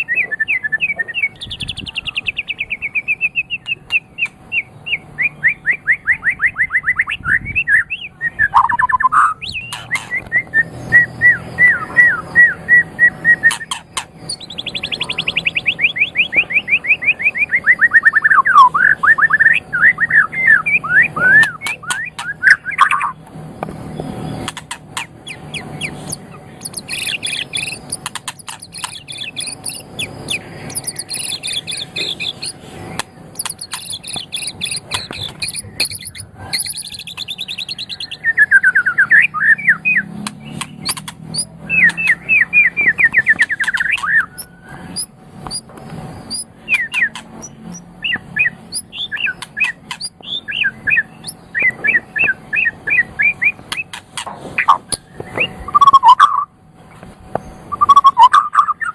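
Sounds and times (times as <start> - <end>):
songbird singing trills and whistles: 0.0 - 23.3, 23.9 - 56.5, 57.3 - 58.9.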